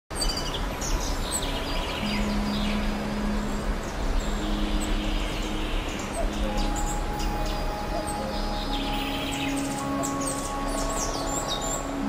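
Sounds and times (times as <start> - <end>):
songbirds chirping and trilling: 0.1 - 12.0
low rumble and hiss: 0.4 - 12.0.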